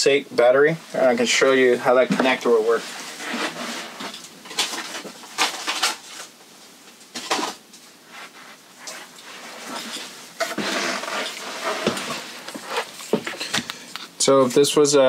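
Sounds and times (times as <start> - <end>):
rustling: 1.2 - 14.2.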